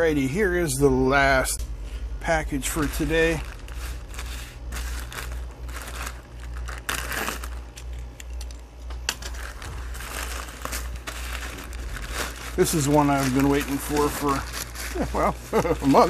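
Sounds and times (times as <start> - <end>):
steady low hum: 0.0 - 16.0
plastic mailer bag crinkling: 2.4 - 8.4, 9.2 - 16.0.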